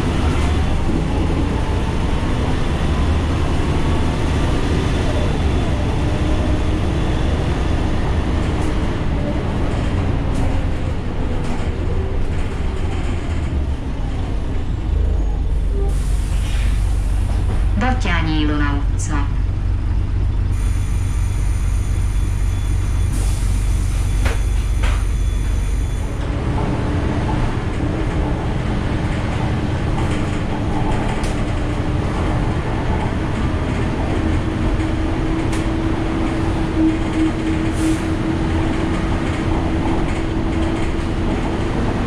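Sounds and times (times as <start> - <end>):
bus diesel engine rumble: 0.0 - 42.0.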